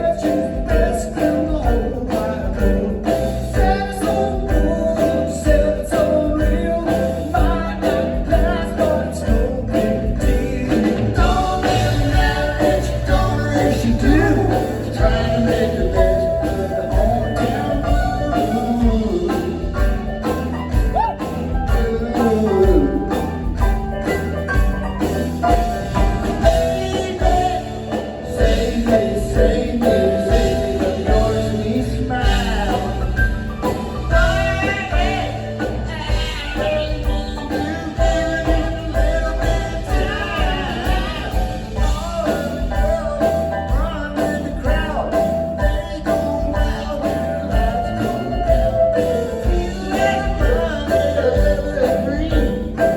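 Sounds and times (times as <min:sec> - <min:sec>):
rock band playing live: 0:00.0 - 0:52.9.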